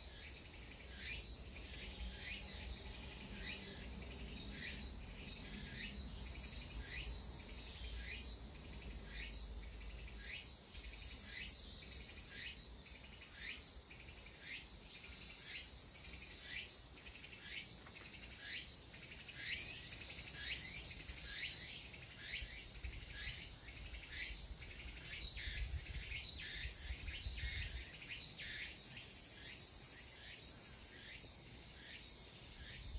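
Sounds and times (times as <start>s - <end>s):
insects trilling: 0.0s - 32.9s.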